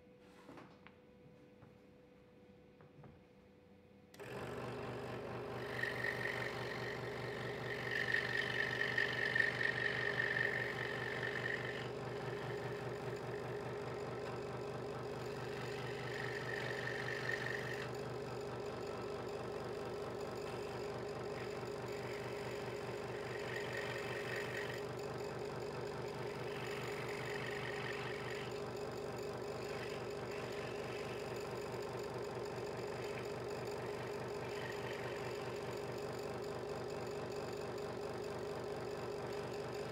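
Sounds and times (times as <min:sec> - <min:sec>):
scroll saw running: 0:04.2 - 0:39.9.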